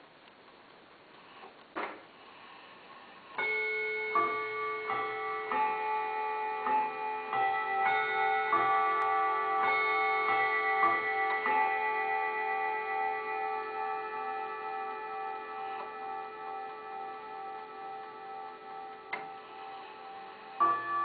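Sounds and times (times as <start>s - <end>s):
clock chiming on gong rods: 3.4s - 21.0s.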